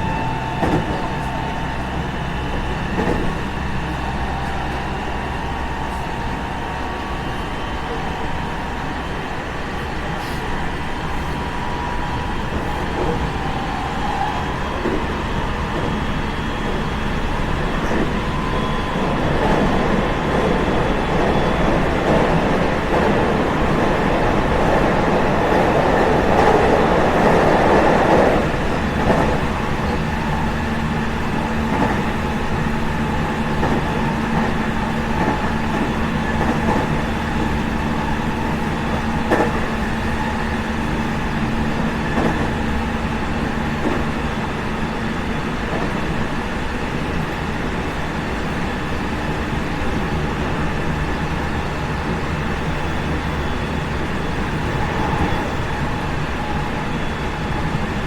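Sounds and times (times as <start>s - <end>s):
train wheel and motor rumble: 0.0s - 58.0s.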